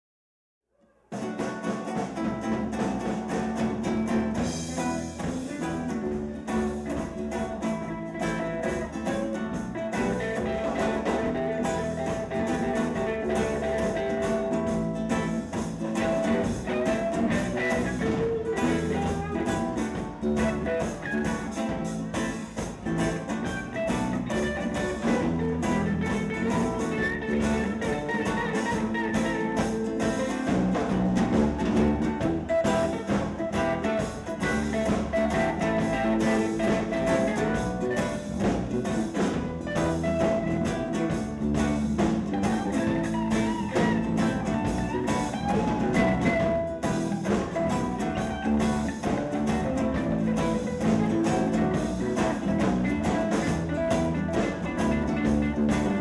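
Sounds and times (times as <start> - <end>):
live reggae rock band: 1.0 - 56.0.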